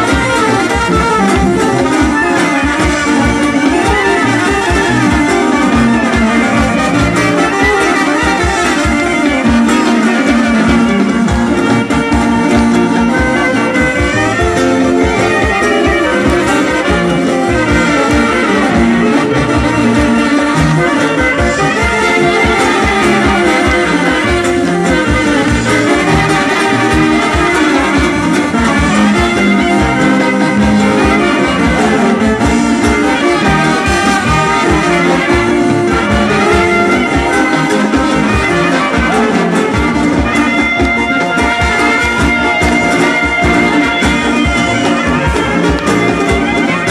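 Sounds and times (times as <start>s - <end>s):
folk dance music: 0.0s - 46.9s.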